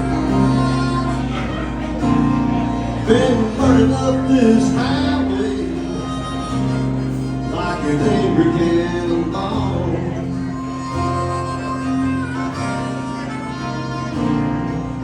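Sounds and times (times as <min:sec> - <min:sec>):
country band playing: 0:00.0 - 0:15.0.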